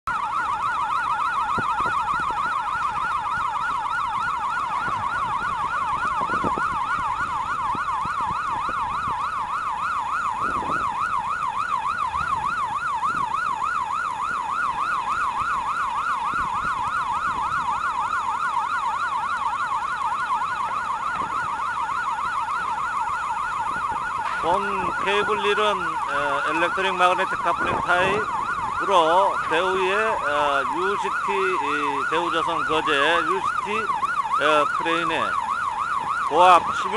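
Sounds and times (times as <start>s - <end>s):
crane warning siren warbling: 0.1s - 36.9s.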